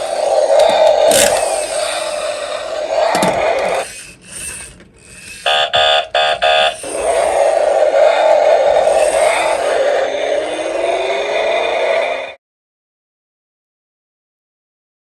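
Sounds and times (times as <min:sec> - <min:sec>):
toy car motor whirring: 0:00.0 - 0:12.4.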